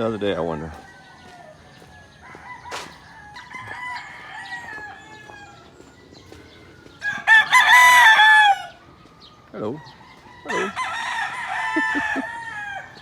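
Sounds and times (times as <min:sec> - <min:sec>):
roosters crowing: 0:00.0 - 0:13.0.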